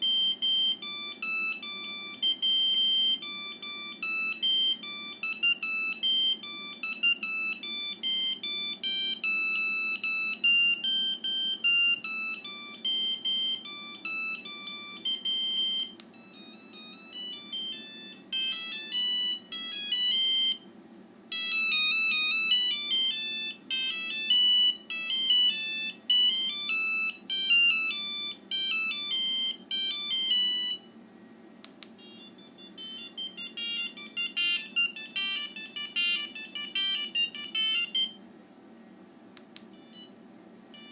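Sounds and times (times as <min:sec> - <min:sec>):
mobile phone electronic ringtones: 0:00.0 - 0:20.7, 0:21.3 - 0:30.9, 0:32.0 - 0:38.2, 0:39.8 - 0:40.1.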